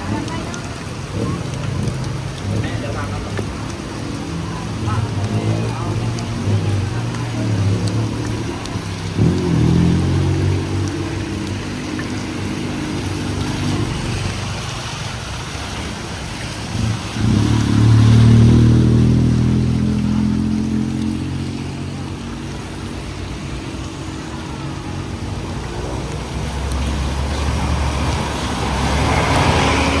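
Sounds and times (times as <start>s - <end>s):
rain hissing on street: 0.0s - 30.0s.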